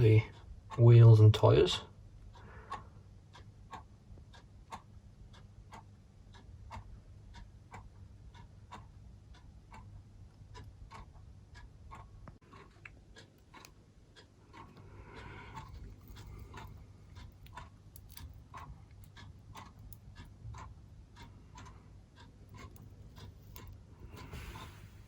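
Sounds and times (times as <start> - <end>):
faint steady ticking: 0.0 - 25.0.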